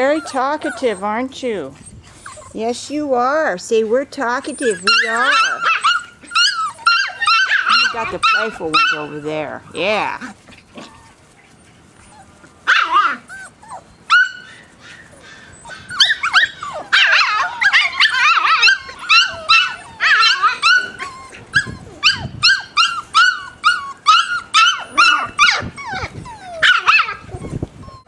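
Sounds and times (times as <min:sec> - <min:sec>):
puppies yipping and barking: 0:00.0 - 0:28.0.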